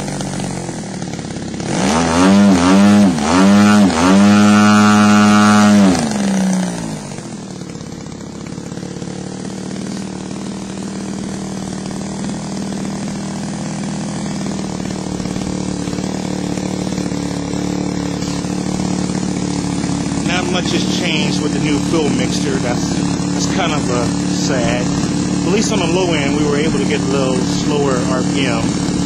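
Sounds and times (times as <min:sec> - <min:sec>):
model airplane engine running: 0:00.0 - 0:29.0.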